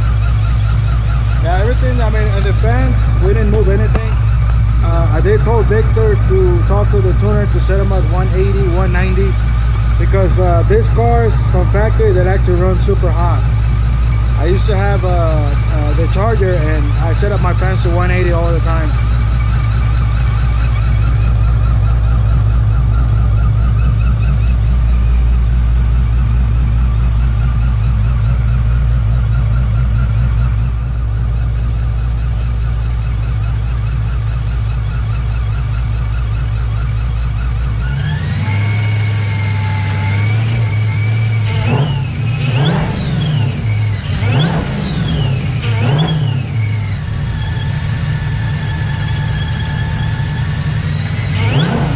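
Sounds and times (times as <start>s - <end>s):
car engine idling: 0.0s - 51.9s
engine revving: 0.0s - 51.9s
supercharger whine: 0.0s - 51.9s.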